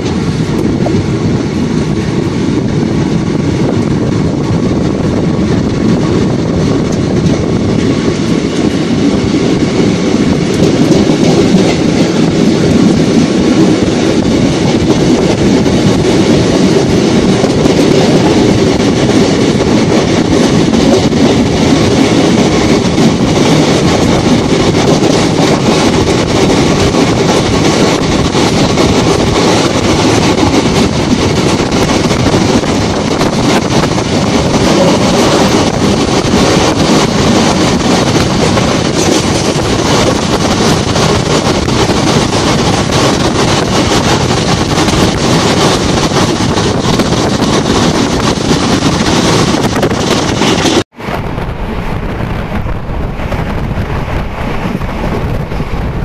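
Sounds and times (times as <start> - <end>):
train wheels rattling on rails: 0.0 - 56.0.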